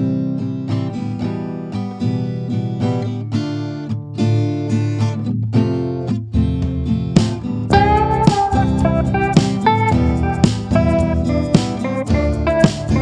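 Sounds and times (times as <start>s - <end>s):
plucked acoustic guitar music: 0.0s - 13.0s.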